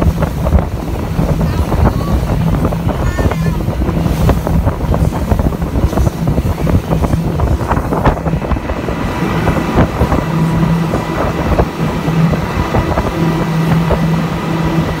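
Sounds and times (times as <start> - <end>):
outboard motors at high speed: 0.0 - 15.0
wind noise on microphone: 0.0 - 15.0.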